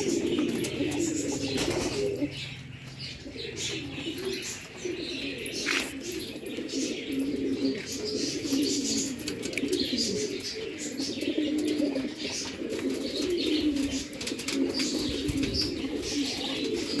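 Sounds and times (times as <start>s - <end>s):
pigeons cooing: 0.0s - 17.0s
small birds chirping: 0.0s - 17.0s.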